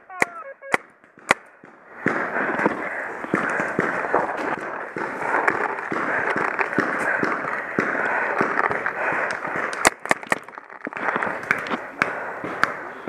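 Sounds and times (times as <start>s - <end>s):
paintball marker firing: 0.2s - 13.0s.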